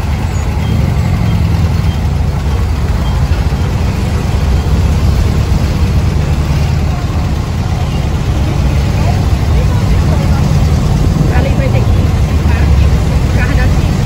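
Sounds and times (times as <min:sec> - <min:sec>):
dune buggy engine droning: 0:00.0 - 0:14.0.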